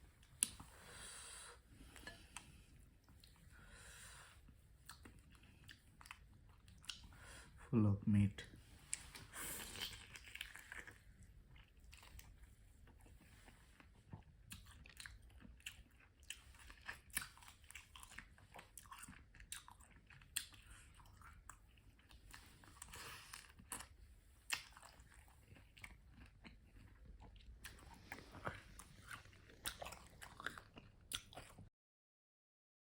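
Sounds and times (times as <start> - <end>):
quiet chewing: 0.0 - 7.6, 8.5 - 31.7.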